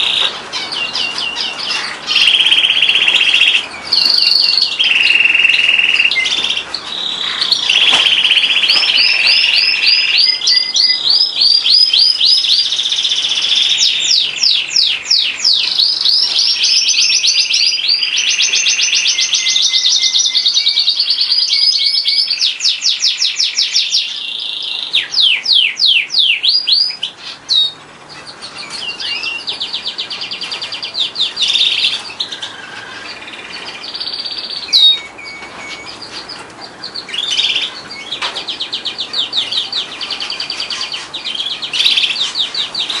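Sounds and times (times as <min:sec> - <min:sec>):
canary singing trilled song: 0:00.0 - 0:43.0.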